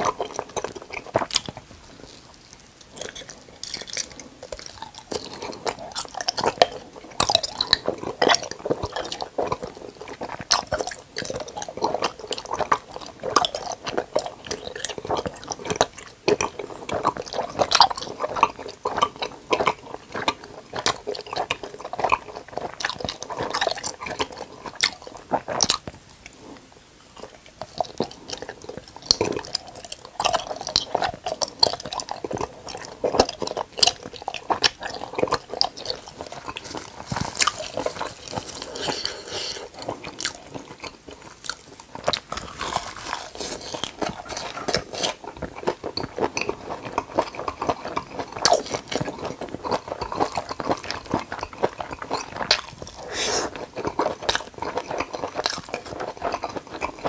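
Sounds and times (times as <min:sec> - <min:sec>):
chewing gummy jelly: 0:00.0 - 0:57.0.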